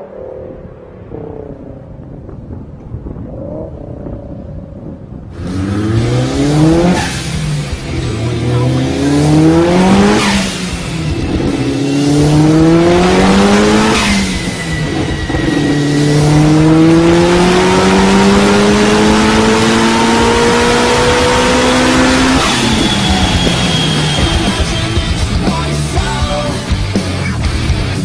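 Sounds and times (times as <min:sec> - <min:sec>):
car engine at full throttle: 0:00.0 - 0:28.0
gear shift rush of noise: 0:00.0 - 0:28.0.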